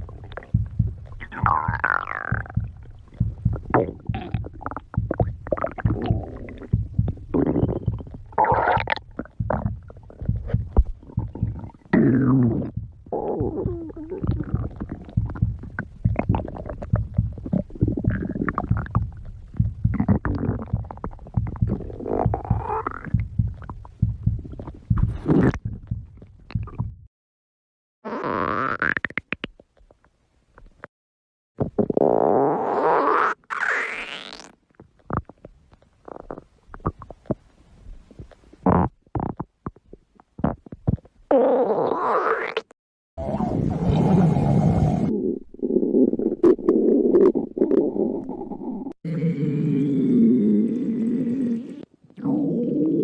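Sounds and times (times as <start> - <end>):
stomach growling: 0.0 - 27.1, 31.6 - 53.0.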